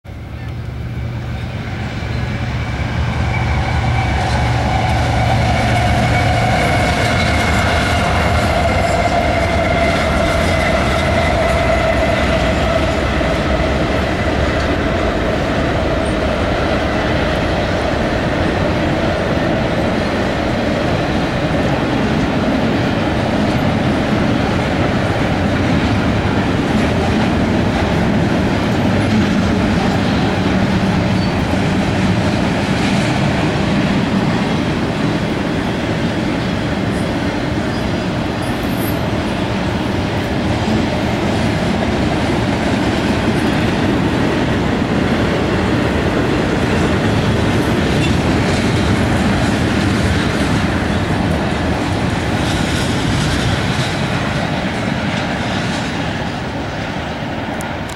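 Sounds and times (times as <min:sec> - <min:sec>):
freight train wheels on rails: 0:00.0 - 0:57.9.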